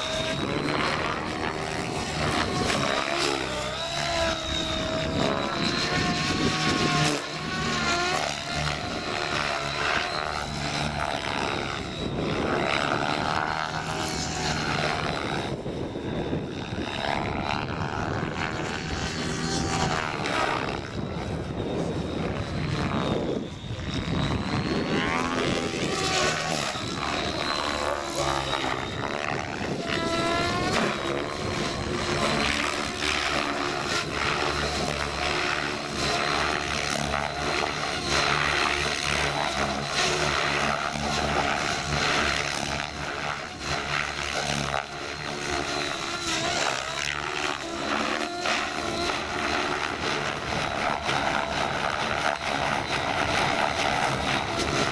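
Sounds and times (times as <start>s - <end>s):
model helicopter rotor whining: 0.0s - 54.9s.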